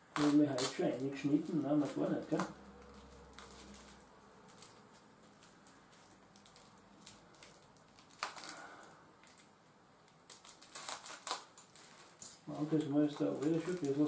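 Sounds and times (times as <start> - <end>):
plastic packet rustling: 0.0 - 9.5, 10.1 - 14.0
plastic packet crinkle: 0.0 - 14.0.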